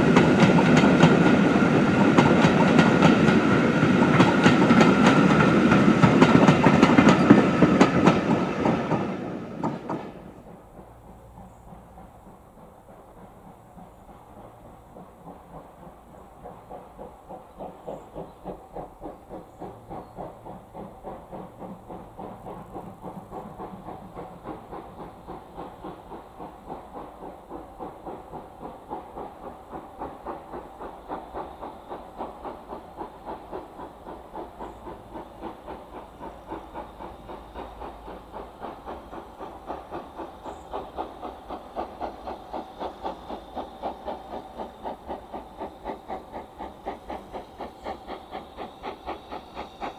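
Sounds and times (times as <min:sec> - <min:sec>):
steam locomotive chuffing: 0:00.0 - 0:49.9.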